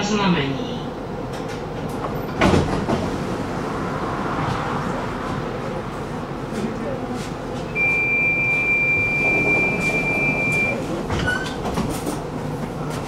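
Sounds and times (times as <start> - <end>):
tram running rumble: 0.0 - 13.0.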